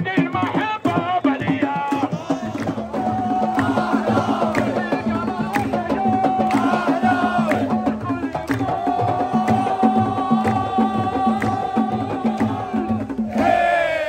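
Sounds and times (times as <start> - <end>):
crowd singing a chant: 0.0 - 14.0
drums beating: 0.0 - 14.0.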